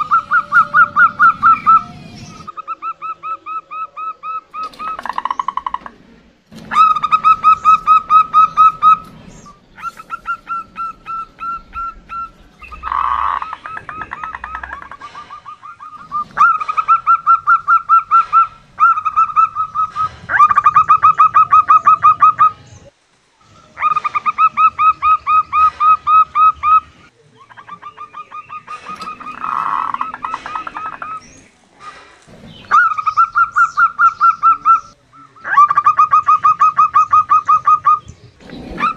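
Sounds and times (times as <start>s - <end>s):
dove staccato cooing: 0.0s - 22.6s, 23.8s - 26.9s, 27.5s - 38.9s.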